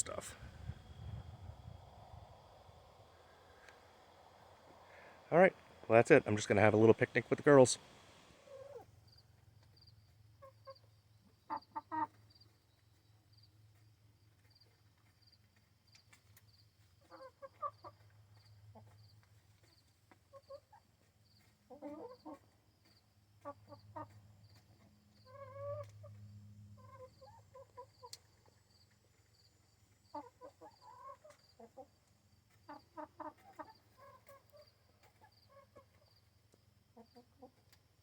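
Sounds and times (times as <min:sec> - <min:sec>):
faint low hum: 0:00.0 - 0:38.0
hens clucking softly: 0:00.0 - 0:38.0.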